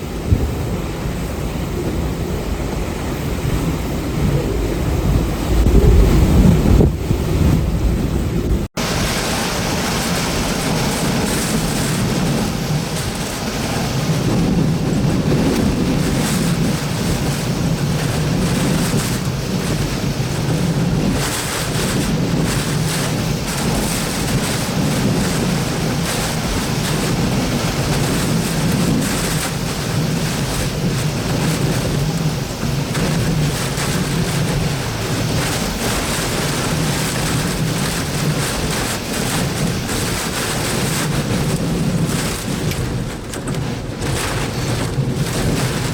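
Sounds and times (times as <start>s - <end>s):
strong wind blowing: 0.0s - 45.9s
wind buffeting microphone: 0.0s - 45.9s.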